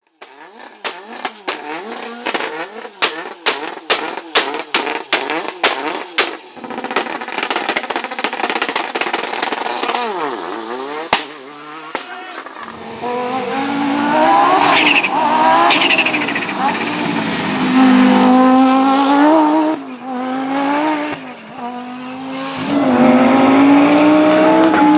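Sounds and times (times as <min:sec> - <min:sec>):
car engine accelerating: 0:00.0 - 0:24.9
rally car engine revving: 0:00.0 - 0:24.9.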